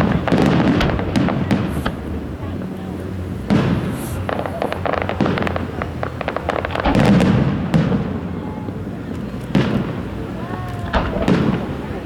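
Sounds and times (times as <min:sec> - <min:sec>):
fireworks bursting: 0:00.0 - 0:12.0
fireworks crackling pops: 0:00.0 - 0:12.0.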